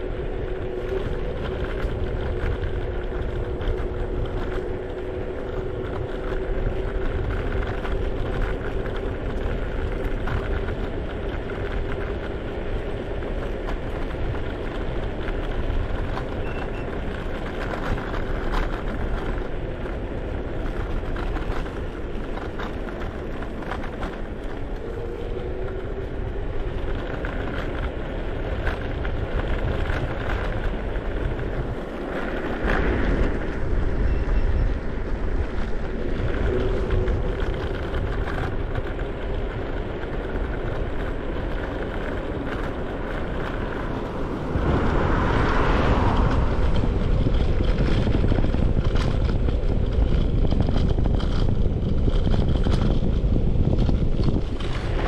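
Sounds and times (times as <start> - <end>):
scooter road noise: 0.0 - 55.0
wind buffeting microphone: 0.0 - 55.0.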